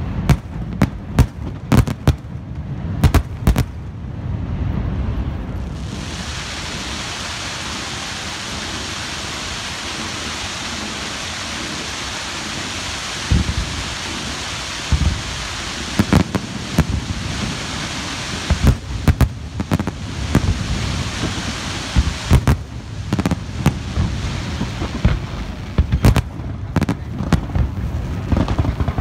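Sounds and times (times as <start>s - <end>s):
fireworks crackling hiss: 0.0s - 29.0s
fireworks shells bursting: 5.7s - 29.0s.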